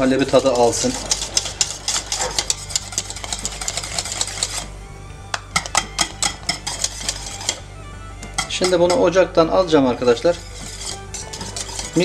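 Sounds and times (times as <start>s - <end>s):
whisk clicking against a metal pot: 0.0s - 4.7s, 5.3s - 7.6s, 8.2s - 12.0s.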